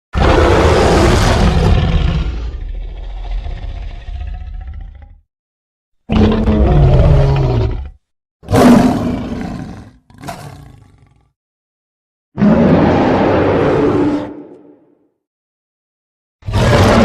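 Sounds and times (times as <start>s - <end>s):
deep rough creature roars: 0.1s - 5.3s, 6.1s - 11.4s, 12.4s - 15.0s, 16.4s - 17.0s.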